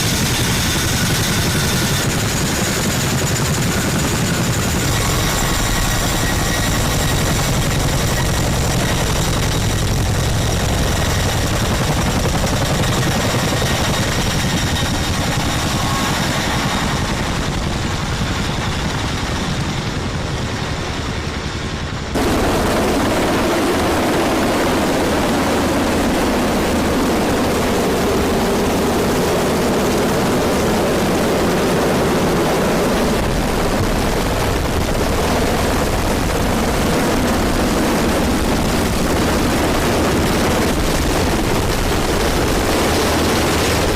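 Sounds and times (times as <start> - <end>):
helicopter rotor and turbine: 0.0 - 43.9.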